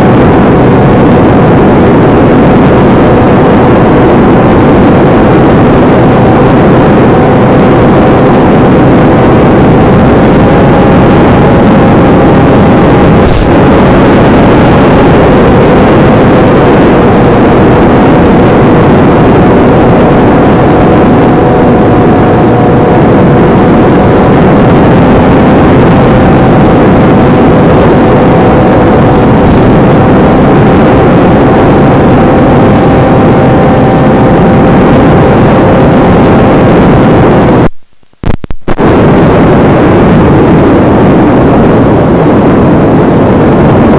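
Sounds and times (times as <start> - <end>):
electric motor and propeller hum: 0.0 - 37.6
wind noise: 0.0 - 43.9.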